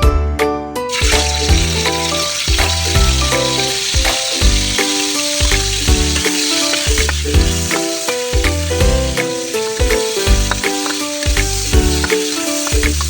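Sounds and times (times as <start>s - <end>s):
background music with a beat: 0.0s - 13.0s
food sizzling in a pan: 0.9s - 13.0s.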